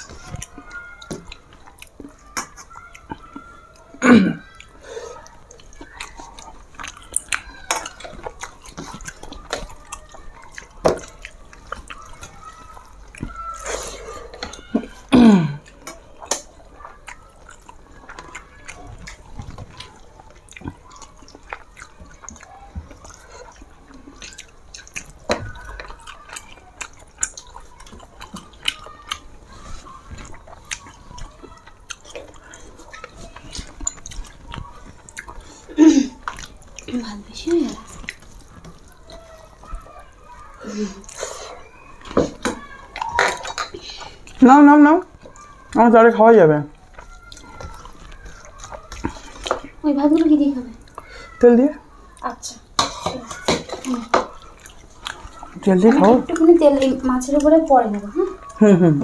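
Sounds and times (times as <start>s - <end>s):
person chewing with lip smacks: 0.0s - 44.4s, 46.7s - 51.4s, 52.0s - 58.6s.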